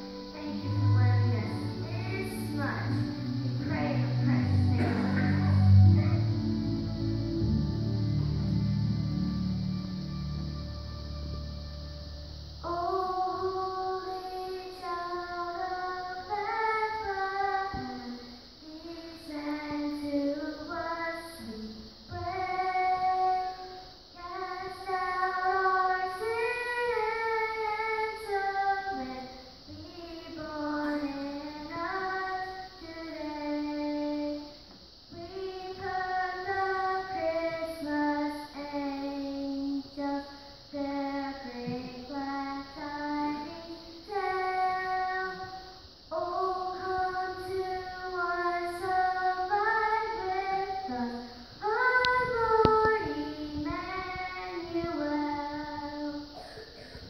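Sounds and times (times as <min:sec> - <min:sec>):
girl singing into microphone: 0:00.0 - 0:07.0, 0:12.6 - 0:57.0.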